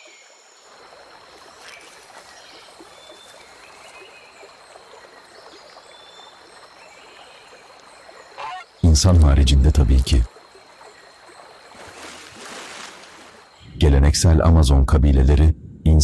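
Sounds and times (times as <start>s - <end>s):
water trickling and lapping: 0.0s - 13.7s.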